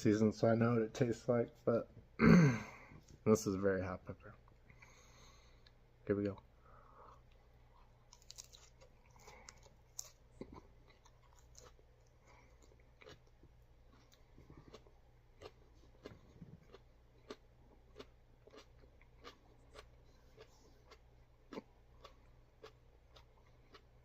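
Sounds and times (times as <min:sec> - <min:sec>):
crunching and chewing chili: 0:04.4 - 0:24.0.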